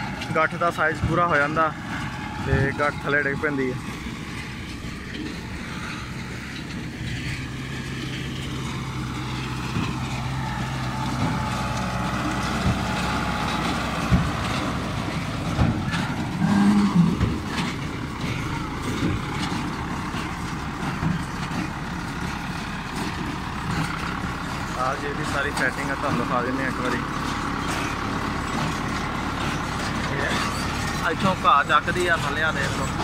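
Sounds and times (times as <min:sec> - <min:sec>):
baler mechanical clatter: 0:00.0 - 0:33.0
tractor engine running: 0:00.0 - 0:33.0.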